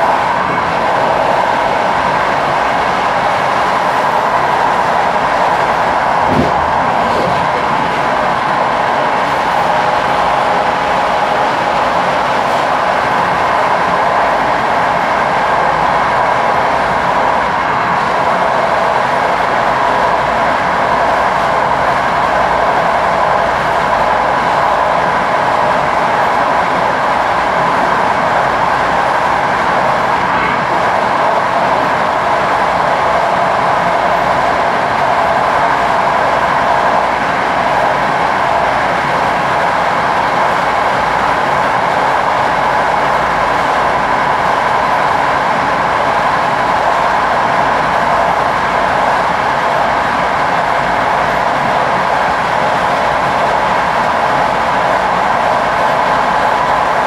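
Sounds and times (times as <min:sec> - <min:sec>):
train running: 0:00.0 - 0:57.0.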